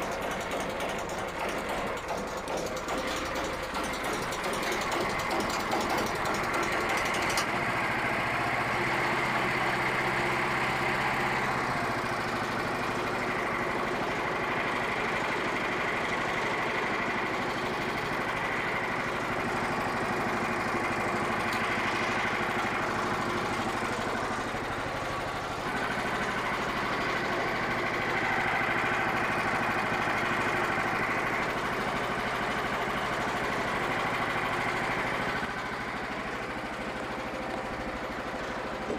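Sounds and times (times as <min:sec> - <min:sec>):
sawmill gasoline engine running: 0:00.0 - 0:38.9.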